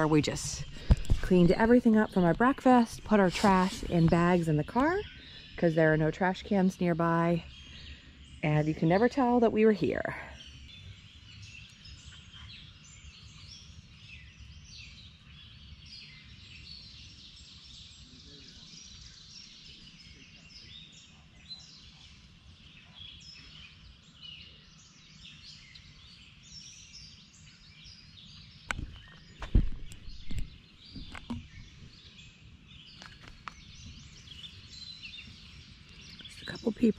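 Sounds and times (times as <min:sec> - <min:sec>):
birds chirping and singing: 0:00.0 - 0:36.9.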